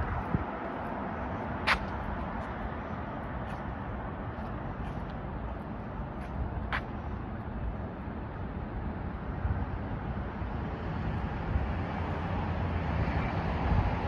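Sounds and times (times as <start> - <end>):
city background noise: 0.0 - 14.0
wind rumbling on microphone: 0.0 - 14.0.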